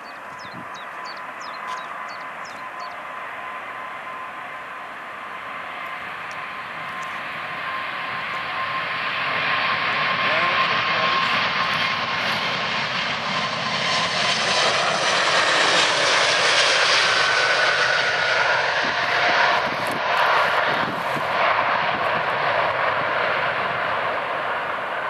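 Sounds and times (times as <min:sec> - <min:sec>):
faint gliding whine: 0:00.0 - 0:25.0
jet engine rushing: 0:00.0 - 0:25.0.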